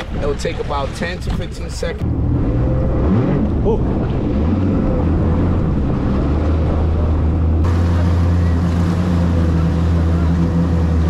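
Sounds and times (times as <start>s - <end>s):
jet ski engine droning: 0.0s - 11.0s.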